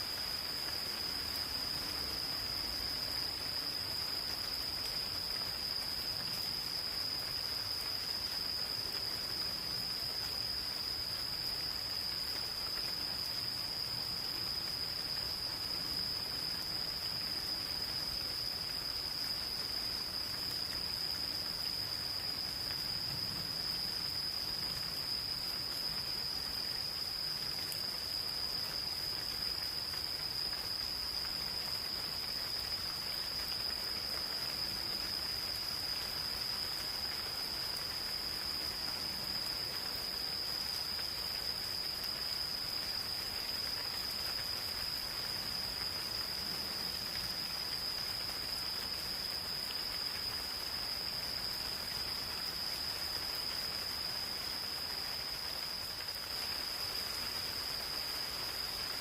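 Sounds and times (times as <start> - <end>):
insects trilling: 0.0 - 59.0
light rain in a forest: 0.0 - 59.0.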